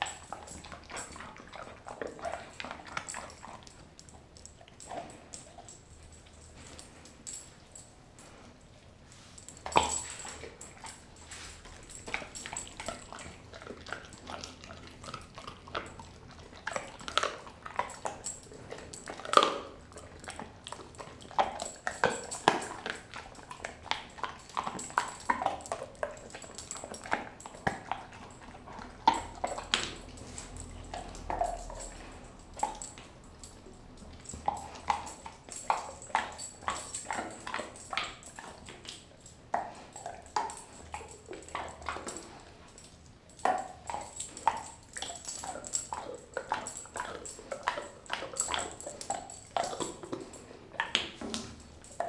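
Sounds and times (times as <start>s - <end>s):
dog chewing meat and bone: 0.0s - 52.0s.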